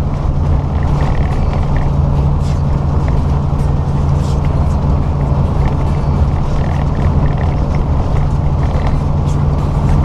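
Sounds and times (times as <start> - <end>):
diesel truck engine cruising: 0.0 - 10.0
road noise on wet pavement: 0.0 - 10.0.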